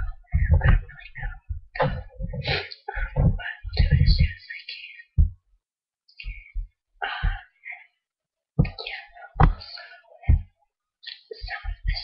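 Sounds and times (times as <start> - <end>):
person speaking: 0.0 - 5.4, 6.2 - 8.0, 8.6 - 12.0.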